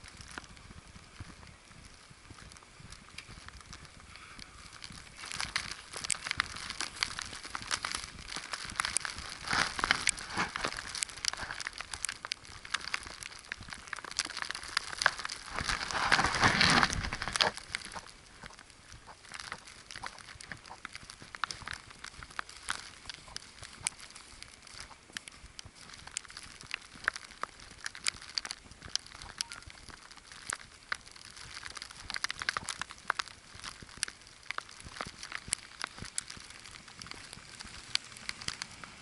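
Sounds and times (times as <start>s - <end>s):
footsteps crunching in snow: 0.0s - 39.0s.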